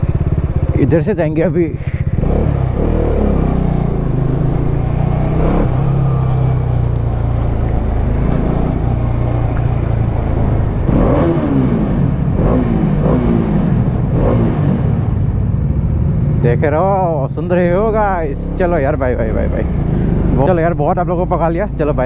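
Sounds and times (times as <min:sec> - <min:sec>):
motorcycle engine revving: 0:00.0 - 0:16.7, 0:17.5 - 0:22.0.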